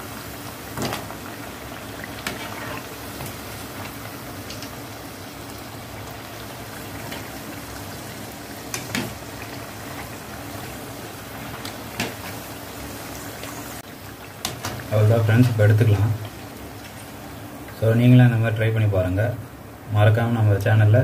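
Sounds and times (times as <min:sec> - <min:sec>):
slices sizzling in hot oil: 0:00.0 - 0:18.9.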